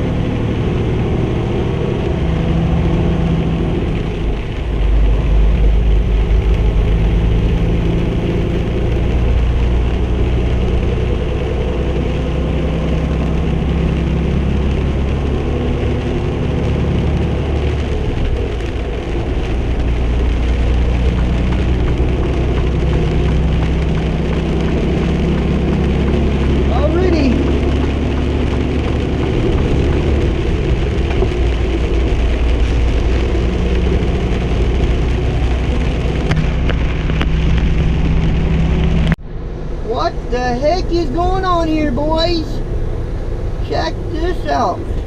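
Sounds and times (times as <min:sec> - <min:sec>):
diesel engine droning: 0:00.0 - 0:45.0
rain and tyre spray hiss: 0:00.0 - 0:45.0
road noise inside cab: 0:00.0 - 0:45.0.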